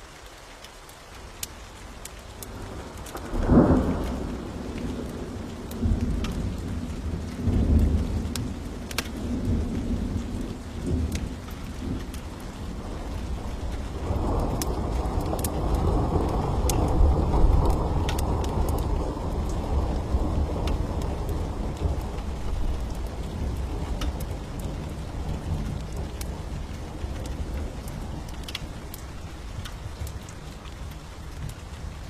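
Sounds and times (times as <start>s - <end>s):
steady rain: 0.0s - 32.0s
wood fire crackling: 0.0s - 32.0s
rolling thunder rumble: 2.6s - 32.0s.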